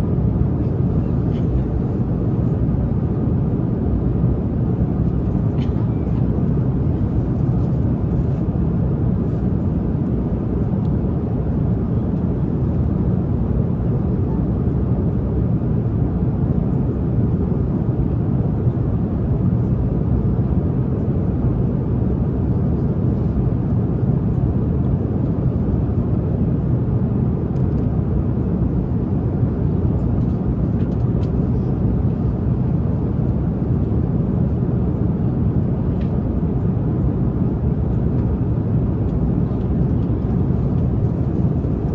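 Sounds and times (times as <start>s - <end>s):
airliner cabin jet engine drone: 0.0s - 41.9s.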